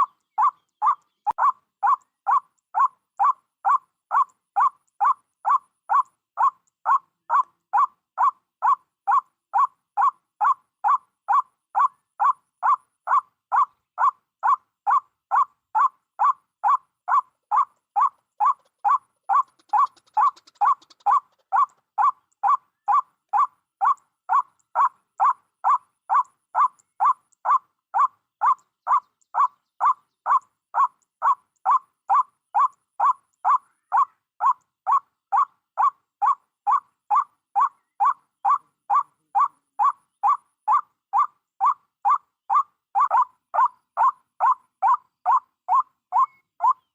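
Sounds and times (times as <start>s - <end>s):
waterhen call repeating: 0.0s - 46.9s.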